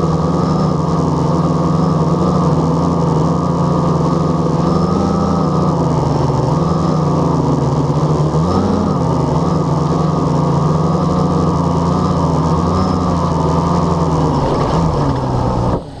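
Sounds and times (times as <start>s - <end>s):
quadcopter propellers buzzing: 0.0s - 16.0s.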